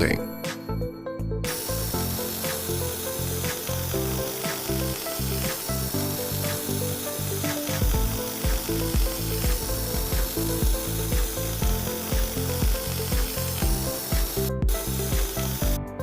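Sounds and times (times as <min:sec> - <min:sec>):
background music with steady beat: 0:00.0 - 0:16.0.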